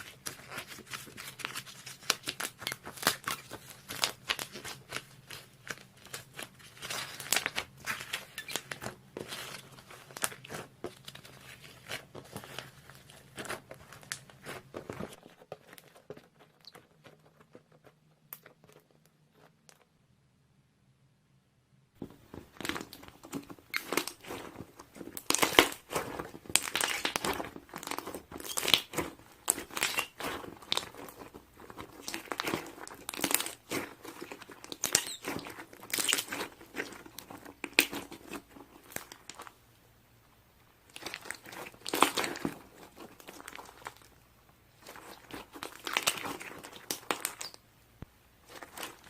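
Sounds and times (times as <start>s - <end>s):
crinkling and rustling: 0.0s - 20.0s, 22.0s - 39.8s, 40.8s - 49.0s.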